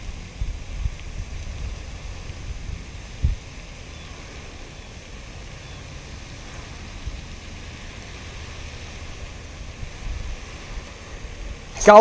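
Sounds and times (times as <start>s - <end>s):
fountain water hissing: 0.0s - 12.0s
wind rumble on microphone: 0.0s - 12.0s.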